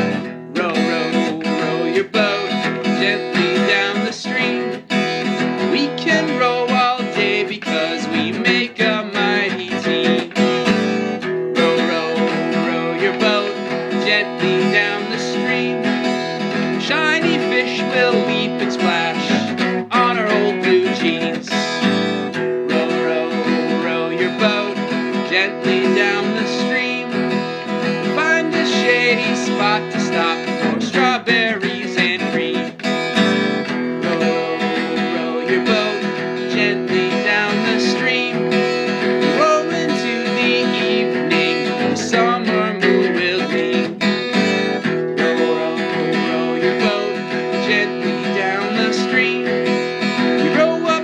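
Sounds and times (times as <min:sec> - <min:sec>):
person singing: 0:00.0 - 0:51.0
strummed acoustic guitar: 0:00.0 - 0:51.0.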